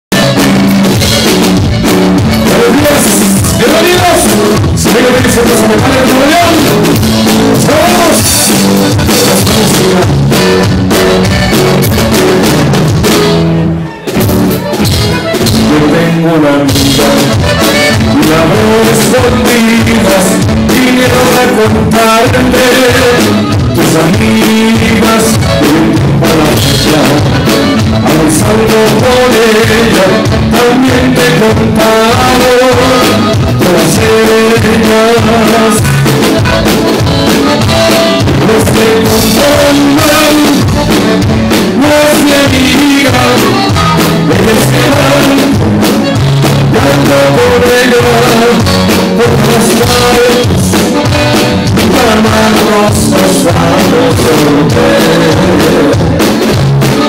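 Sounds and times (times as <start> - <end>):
bass guitar: 0.0 - 57.0
drum kit: 0.0 - 57.0
guitar: 0.0 - 57.0
button accordion: 0.1 - 57.0.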